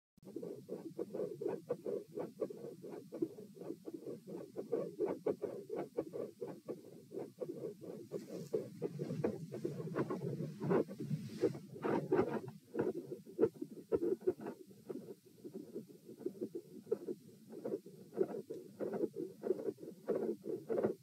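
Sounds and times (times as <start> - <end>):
heartbeat lub-dub: 0.2 - 21.0
low rumble of chest contact: 0.4 - 21.0.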